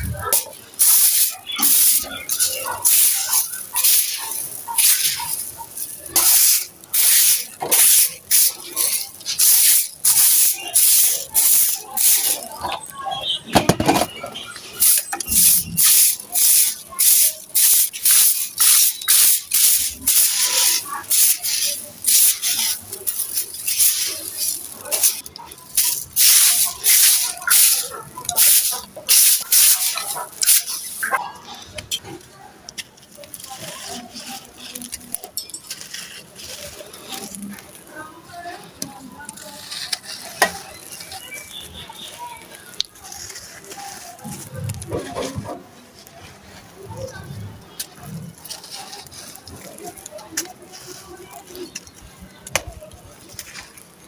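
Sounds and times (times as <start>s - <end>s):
rasping strokes in gritty sand: 0.0s - 13.4s, 14.4s - 31.2s, 33.2s - 44.3s, 47.8s - 51.9s.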